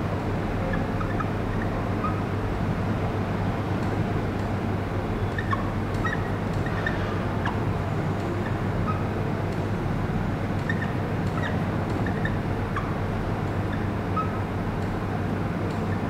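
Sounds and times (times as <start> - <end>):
room hum and hiss: 0.0 - 16.0.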